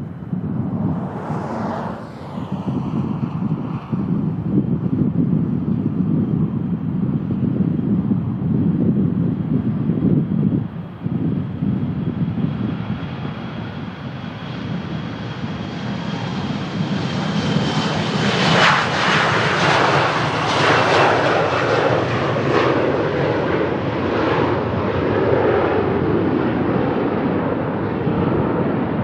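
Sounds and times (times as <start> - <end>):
jet engines roaring: 0.0 - 5.9, 11.0 - 29.0
wind buffeting microphone: 0.0 - 29.0.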